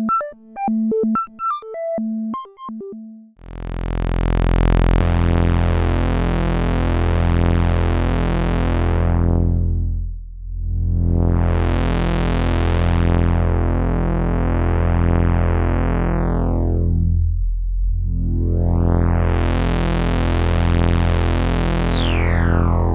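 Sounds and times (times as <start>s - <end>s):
synthesizer drone with filter sweep: 0.0s - 22.9s.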